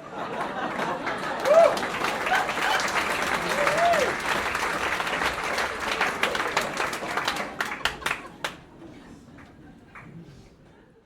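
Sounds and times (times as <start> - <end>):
audience applauding: 0.0 - 10.3
faint crowd murmur: 0.0 - 11.0.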